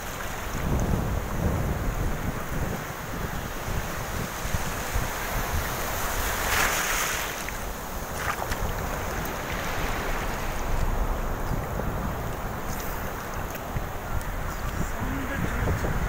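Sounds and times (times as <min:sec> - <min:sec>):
surf washing and foaming: 0:00.0 - 0:16.0
wind buffeting microphone: 0:00.0 - 0:16.0.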